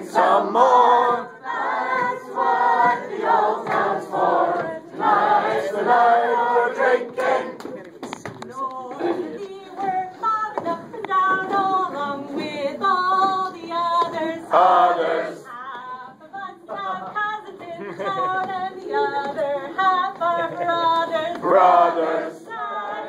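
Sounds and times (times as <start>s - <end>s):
crowd singing unaccompanied: 0.0s - 23.0s.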